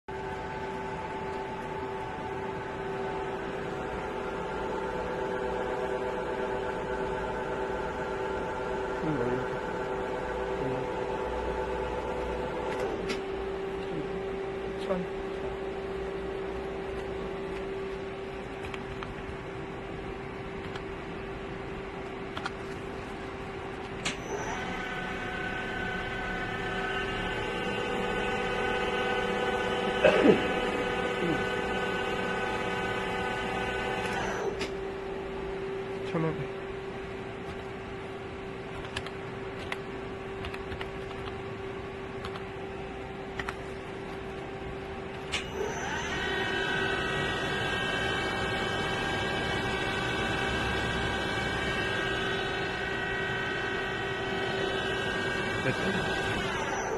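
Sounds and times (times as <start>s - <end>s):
machine hum with whining tones: 0.1s - 56.9s.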